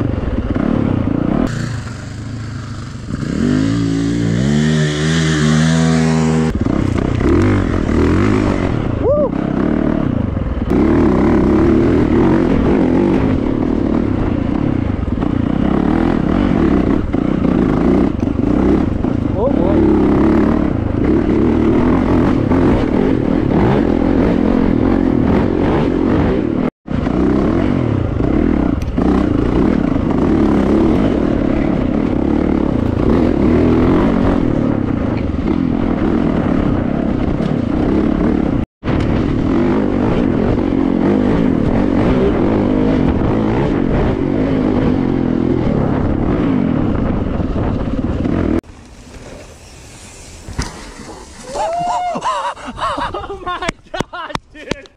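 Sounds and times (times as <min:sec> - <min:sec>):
dirt bike engine running: 0:00.0 - 0:54.2.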